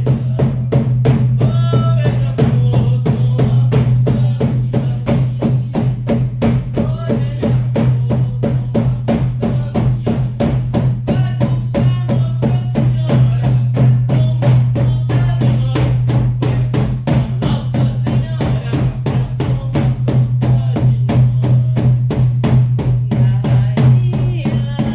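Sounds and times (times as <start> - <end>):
frame drums beaten fast: 0.0 - 24.9.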